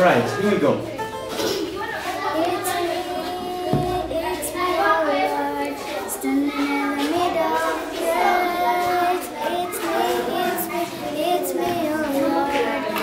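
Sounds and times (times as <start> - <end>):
child singing: 1.9 - 13.0.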